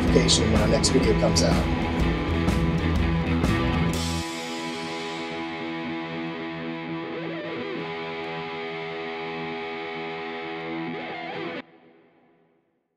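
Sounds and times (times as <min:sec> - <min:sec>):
bending guitar lead phrase: 0:00.0 - 0:11.9
distorted electric guitar chord: 0:00.0 - 0:12.4.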